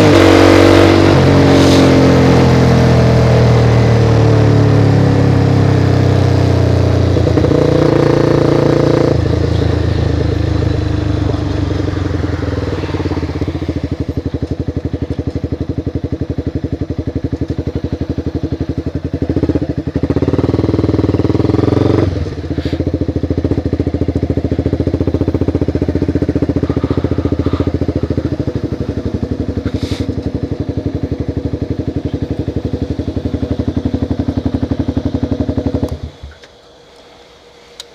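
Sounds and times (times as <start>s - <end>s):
motorcycle engine: 0.0s - 37.9s.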